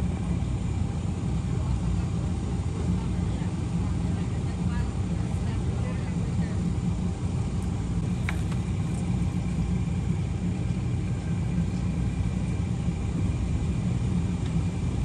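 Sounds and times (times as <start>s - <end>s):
outboard motors idling: 0.0s - 15.0s.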